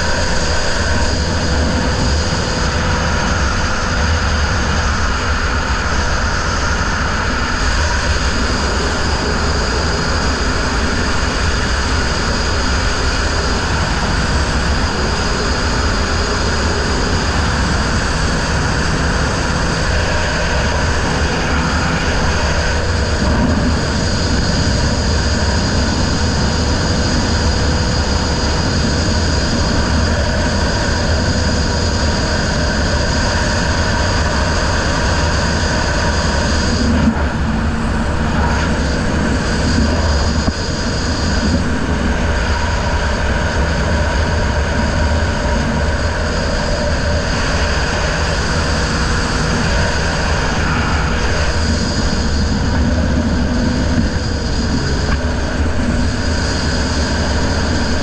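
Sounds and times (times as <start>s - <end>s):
outboard engine drone and whine: 0.0s - 58.0s.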